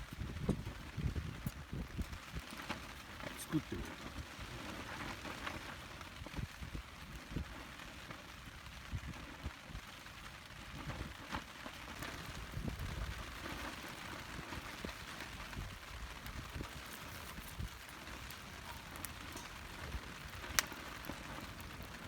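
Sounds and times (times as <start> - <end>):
raindrops striking a tarp: 0.0 - 22.0
steady rain falling: 0.0 - 22.0.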